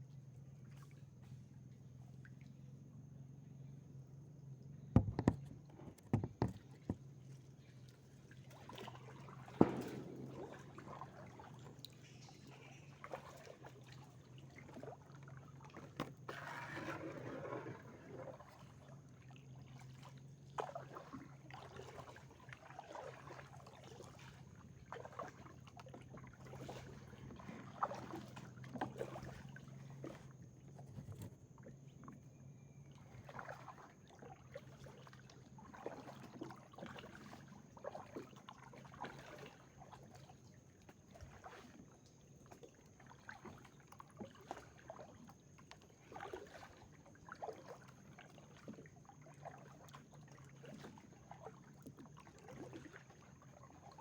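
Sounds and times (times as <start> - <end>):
paddle splashing in water: 5.0 - 54.0.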